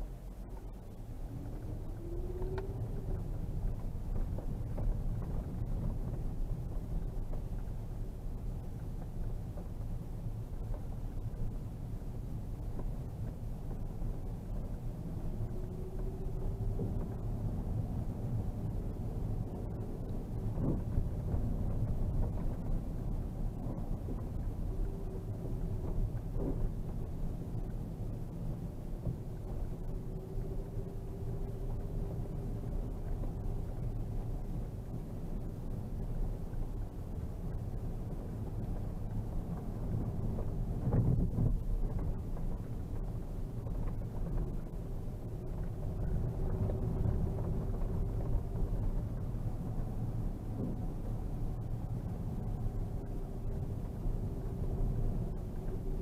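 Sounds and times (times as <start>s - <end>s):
car engine and tyre rumble: 0.0s - 56.0s
faint whine: 0.0s - 56.0s.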